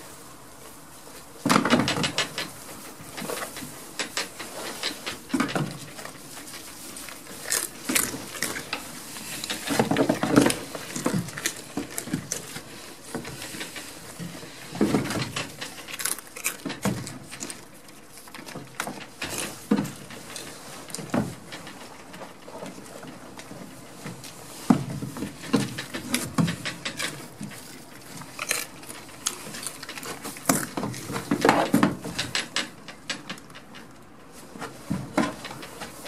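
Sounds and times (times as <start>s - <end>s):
rustling: 0.0s - 32.6s
goats jostling and feeding: 0.0s - 36.0s.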